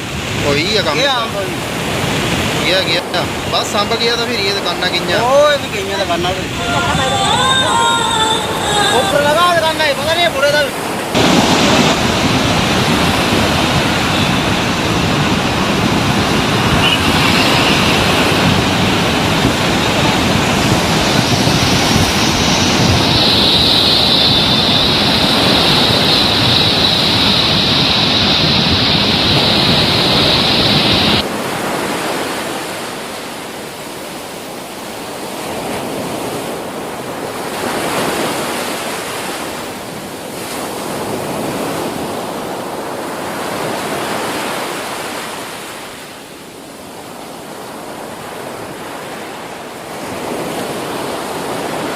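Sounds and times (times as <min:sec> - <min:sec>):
rushing floodwater: 0:00.0 - 0:51.9.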